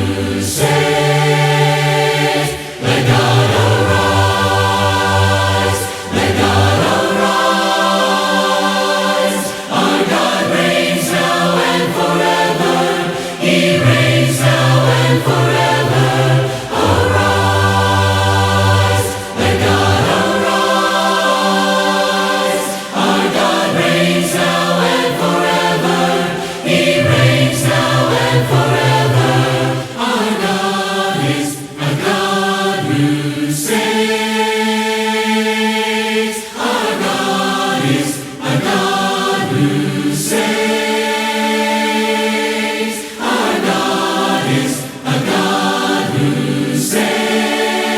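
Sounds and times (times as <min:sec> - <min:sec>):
congregation singing a hymn: 0:00.0 - 0:47.9.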